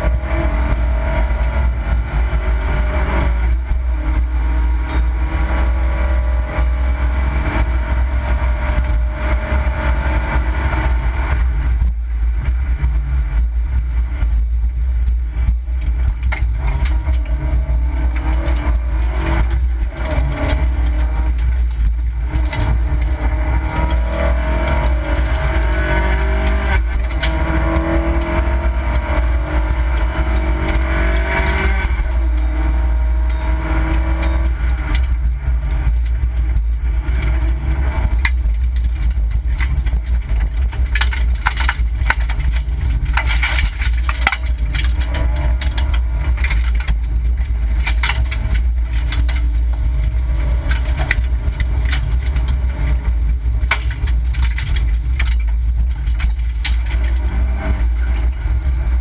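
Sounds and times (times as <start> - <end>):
car engine revving: 0.0 - 59.0
gravel clattering under car: 0.0 - 59.0
low road noise rumble: 0.0 - 59.0.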